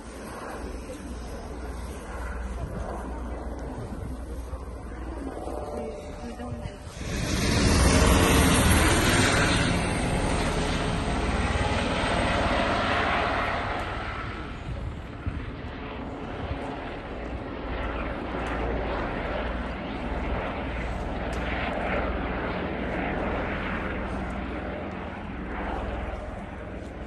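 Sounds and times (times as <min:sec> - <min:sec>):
helicopters flying over: 0:00.0 - 0:27.0.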